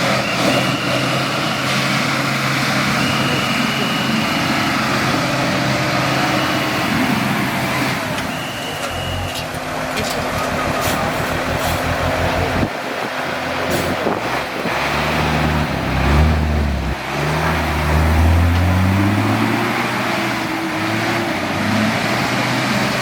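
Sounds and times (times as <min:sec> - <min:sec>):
car engine revving under load: 0:00.0 - 0:23.0.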